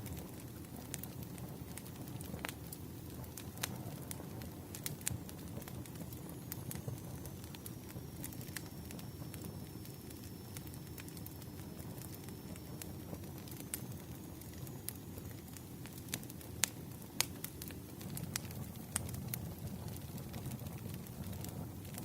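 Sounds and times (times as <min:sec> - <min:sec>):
campfire crackling and popping: 0:00.0 - 0:22.0
faint high whine: 0:03.8 - 0:22.0.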